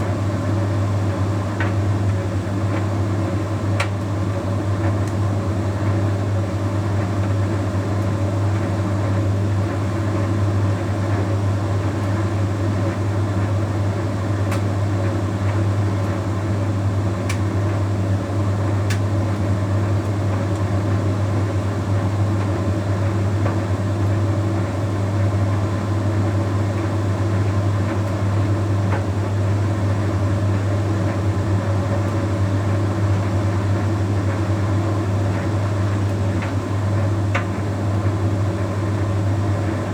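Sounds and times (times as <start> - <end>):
tumble dryer running: 0.0 - 39.9.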